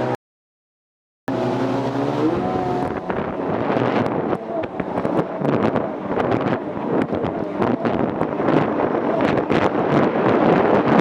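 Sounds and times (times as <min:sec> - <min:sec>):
jet ski engine running: 0:01.3 - 0:11.0
wind buffeting microphone: 0:01.3 - 0:11.0.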